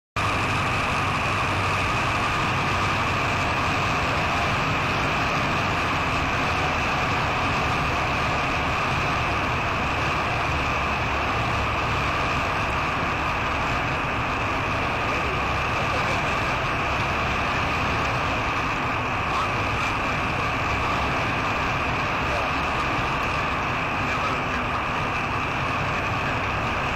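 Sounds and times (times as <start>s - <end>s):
light aircraft engine and propeller: 0.2s - 26.9s.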